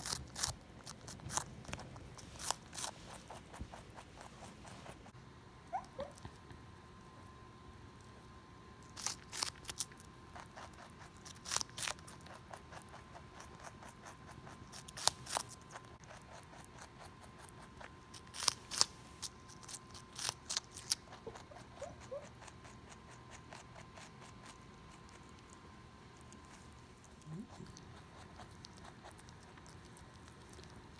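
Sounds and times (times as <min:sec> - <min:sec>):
rabbit crunching watermelon: 0:00.0 - 0:30.9.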